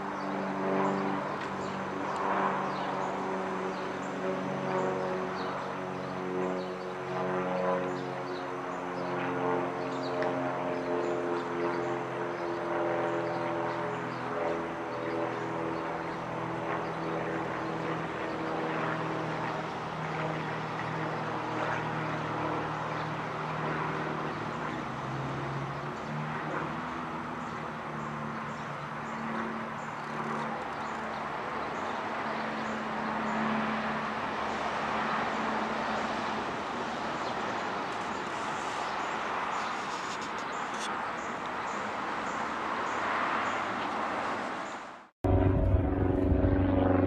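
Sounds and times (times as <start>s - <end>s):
airplane droning overhead: 0.0s - 47.0s.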